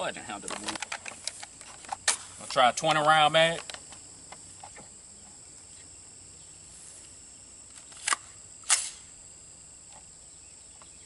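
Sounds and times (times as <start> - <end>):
crickets droning: 0.0 - 11.0.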